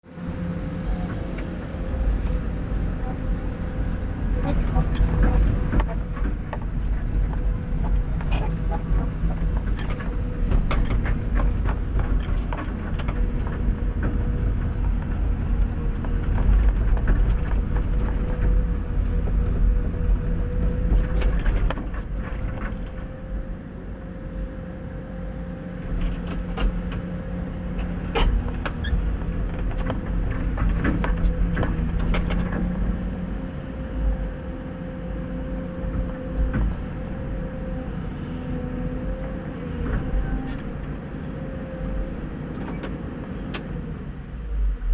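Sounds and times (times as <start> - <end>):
excavator diesel engine whining: 0.0 - 44.9.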